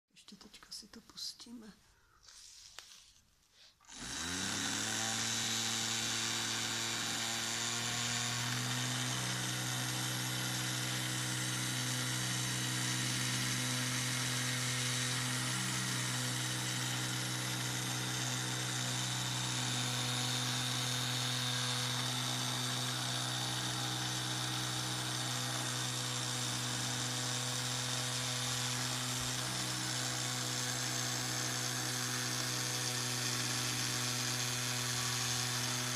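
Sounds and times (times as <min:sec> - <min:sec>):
toy motor and gears whirring: 0:03.9 - 0:35.9.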